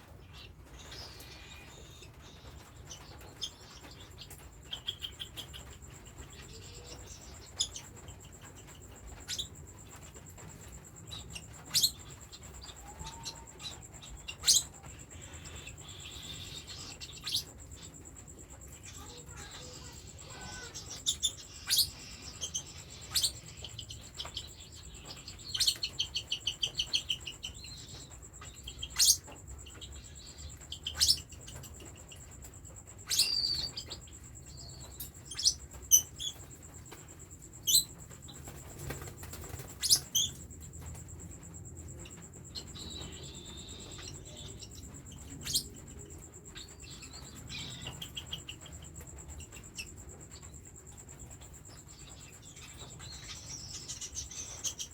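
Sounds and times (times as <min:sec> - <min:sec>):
chicks giving begging calls: 0:00.0 - 0:54.9.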